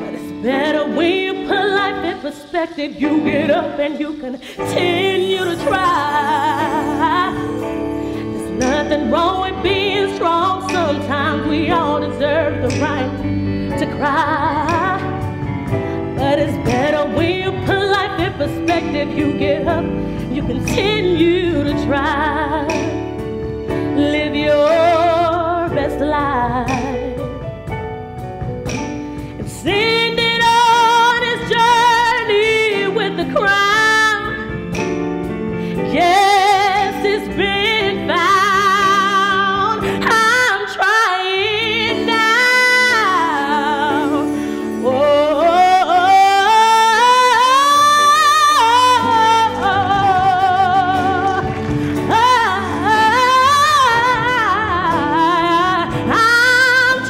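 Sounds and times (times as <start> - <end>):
woman singing into microphone: 0.0 - 27.5, 29.4 - 57.0
keyboard: 0.0 - 57.0
drums: 4.5 - 40.6, 41.9 - 57.0
live band playing: 4.6 - 57.0.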